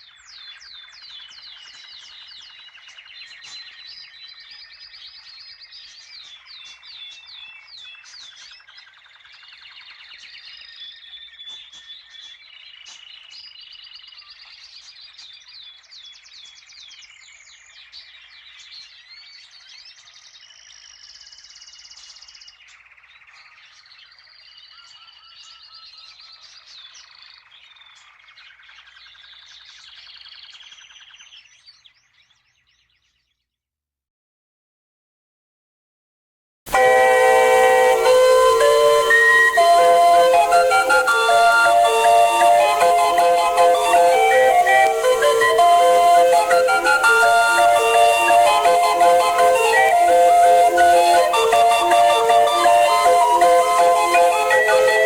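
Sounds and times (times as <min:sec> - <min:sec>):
songbirds chirping and trilling: 0:00.0 - 0:33.4, 0:36.7 - 0:55.0.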